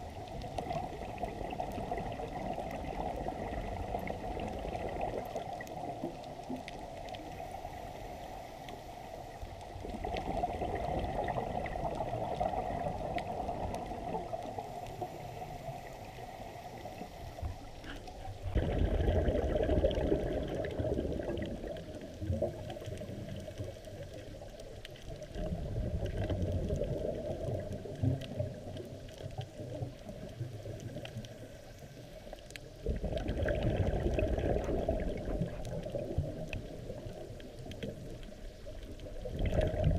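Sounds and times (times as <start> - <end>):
underwater exhaled bubbles: 0.0 - 39.9.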